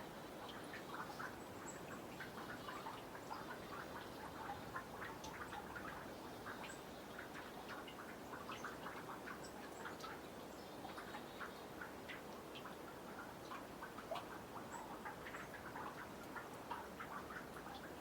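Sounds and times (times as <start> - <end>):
meltwater dripping into pond: 0.0 - 18.0.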